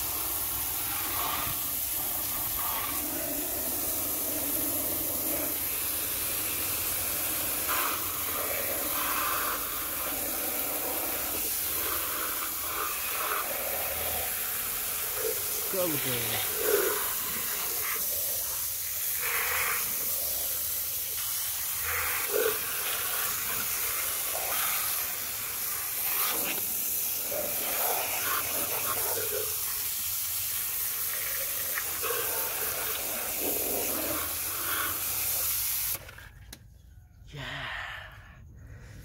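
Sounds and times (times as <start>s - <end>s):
water spattering: 0.0s - 36.1s
water jet spraying on plastic: 0.0s - 36.2s.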